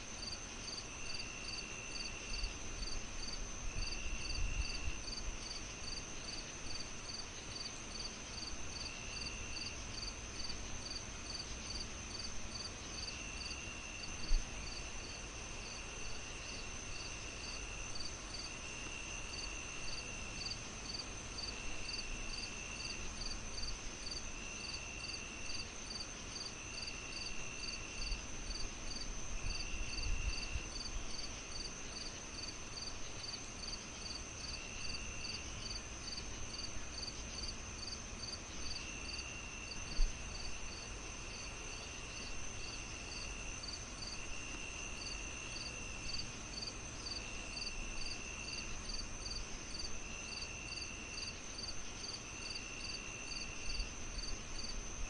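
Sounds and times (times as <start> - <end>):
crickets chirping: 0.0 - 55.0
high insect whine: 0.0 - 55.0.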